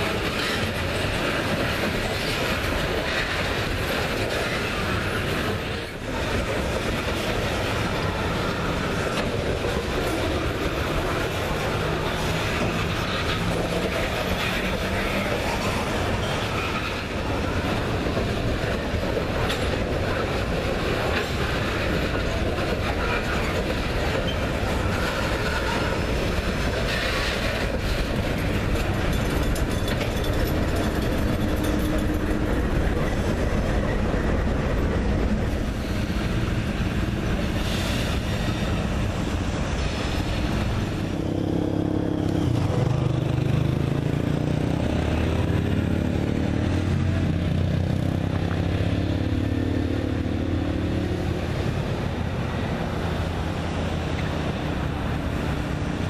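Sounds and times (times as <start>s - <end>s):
diesel locomotive engine running: 0.0s - 56.0s
train wheels clacking on rails: 0.0s - 56.0s.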